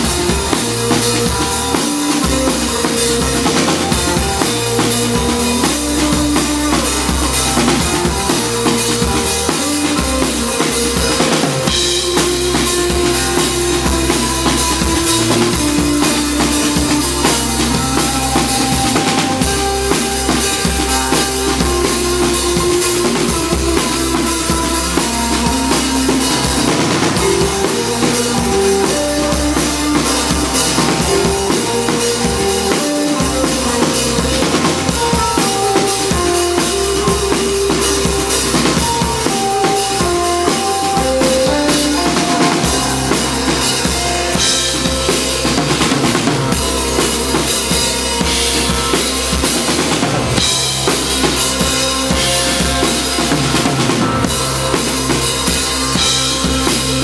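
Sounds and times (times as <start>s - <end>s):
drum kit beating: 0.0s - 57.0s
electric guitar notes: 0.0s - 57.0s.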